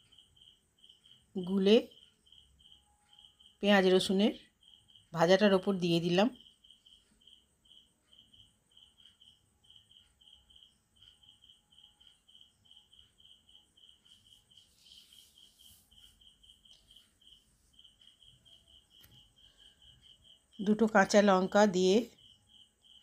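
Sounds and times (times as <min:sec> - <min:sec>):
cricket-like chirping: 0:00.0 - 0:23.0.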